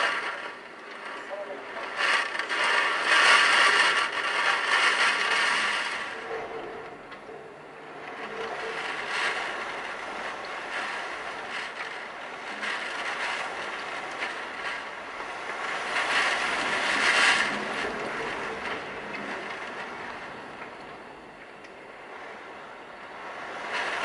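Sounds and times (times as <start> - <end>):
driving rain: 0.0 - 24.0
gusting wind: 0.0 - 24.0.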